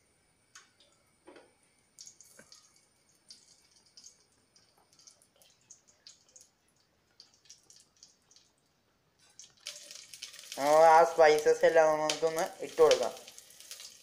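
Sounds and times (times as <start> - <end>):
ghee crackling in a pot: 0.0 - 14.0.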